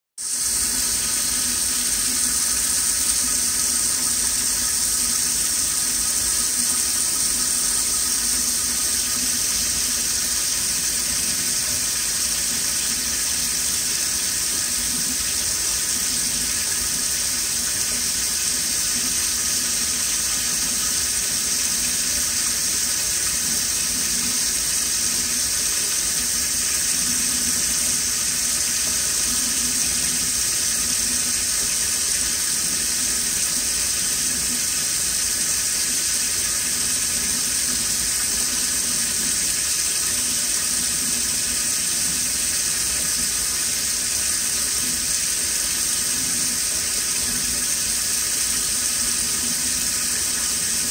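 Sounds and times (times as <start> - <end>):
faucet water splashing into sink: 0.3 - 50.9.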